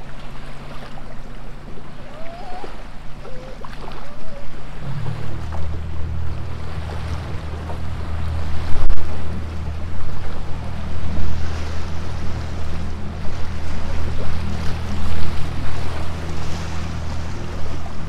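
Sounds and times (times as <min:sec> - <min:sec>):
outboard motor running: 0:00.0 - 0:18.0
water splashing along hull: 0:00.0 - 0:18.0.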